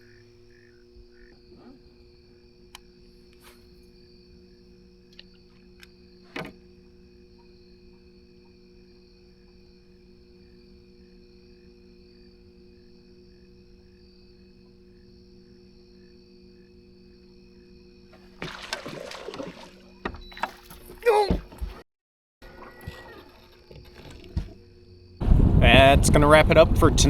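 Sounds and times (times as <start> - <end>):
boat motor humming: 0.0 - 21.8, 22.4 - 27.0.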